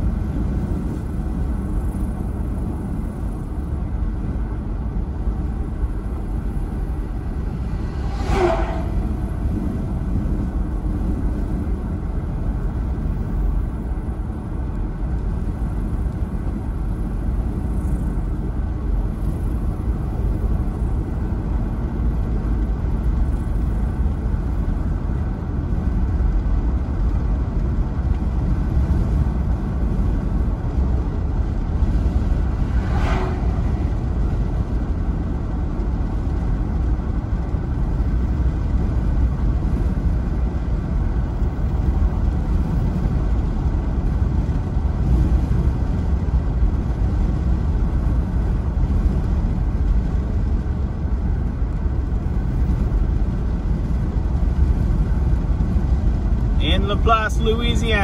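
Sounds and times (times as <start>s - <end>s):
car cabin road and engine rumble: 0.0s - 58.0s.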